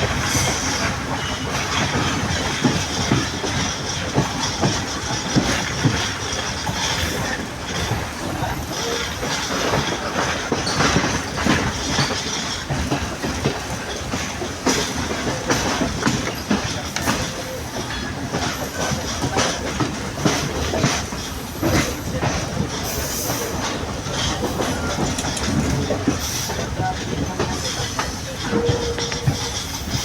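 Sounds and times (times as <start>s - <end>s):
train rolling rumble and rattle: 0.0s - 30.0s
wheels clicking over rail joints: 0.0s - 30.0s.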